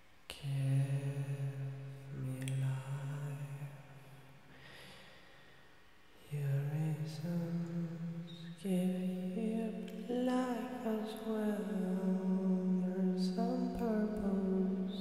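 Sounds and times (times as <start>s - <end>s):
man singing low held notes: 0.3s - 4.0s, 6.2s - 15.0s.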